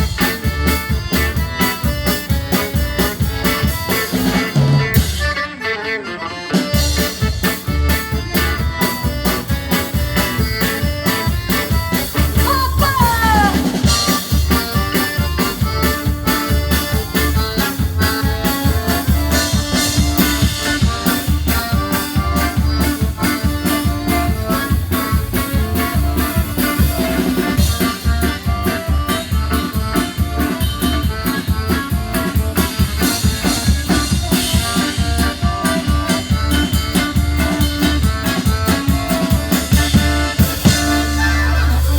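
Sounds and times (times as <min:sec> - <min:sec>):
drum kit steady beat: 0:00.0 - 0:05.5, 0:06.6 - 0:41.9
accordion playing dance tune: 0:00.0 - 0:41.9
guitar: 0:00.0 - 0:41.9.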